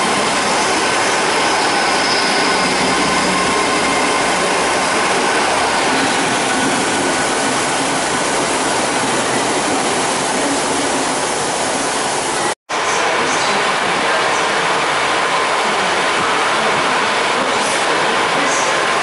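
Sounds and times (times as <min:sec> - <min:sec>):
diesel train moving: 0:00.0 - 0:19.0
train rushing past: 0:00.0 - 0:19.0.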